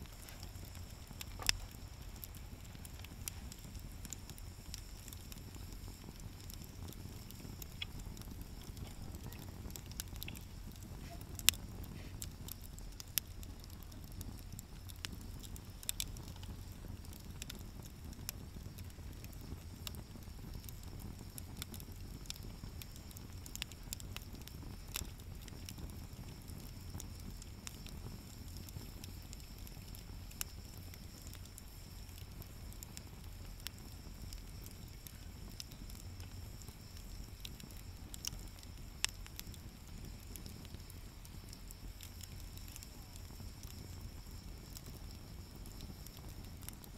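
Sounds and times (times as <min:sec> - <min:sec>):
fire popping and snapping: 0:00.0 - 0:46.9
low steady rumble: 0:00.0 - 0:46.9
wood fire crackling: 0:00.0 - 0:46.9.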